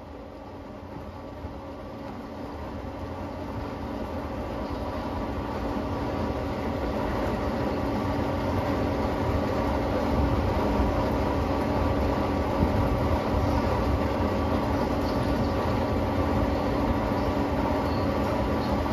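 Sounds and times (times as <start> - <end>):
lathe machine hum and whine: 0.0 - 18.9.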